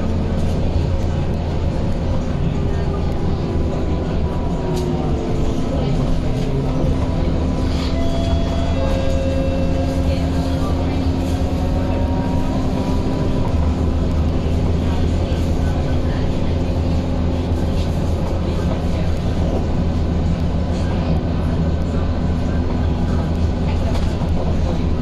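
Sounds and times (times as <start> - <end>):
bus engine noise: 0.0 - 25.0.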